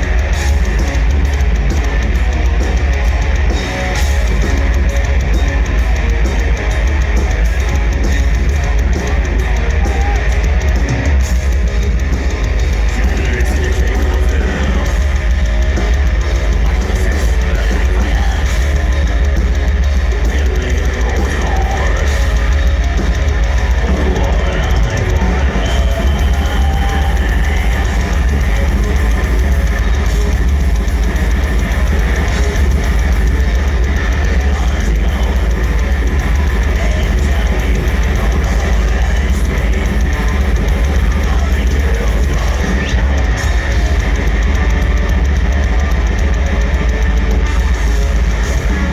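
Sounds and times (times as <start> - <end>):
metal band playing live: 0.0 - 48.9.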